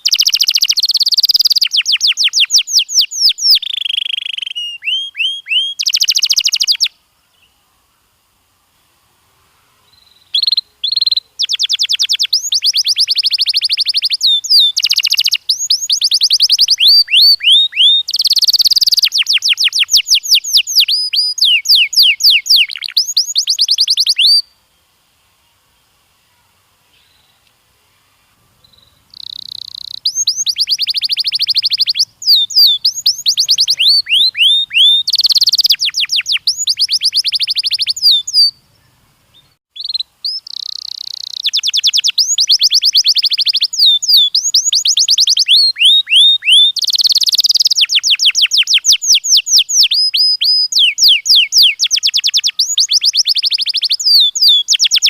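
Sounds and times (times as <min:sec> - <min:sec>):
canary singing trills: 0:00.0 - 0:07.6, 0:09.7 - 0:25.0, 0:26.9 - 0:55.0.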